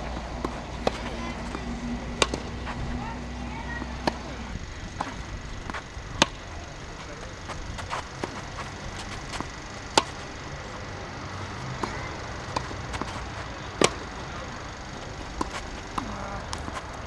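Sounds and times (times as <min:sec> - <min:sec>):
tennis ball bouncing on court: 0:00.0 - 0:06.4, 0:07.0 - 0:10.5, 0:11.5 - 0:16.9
racquets hitting tennis ball: 0:00.0 - 0:17.0.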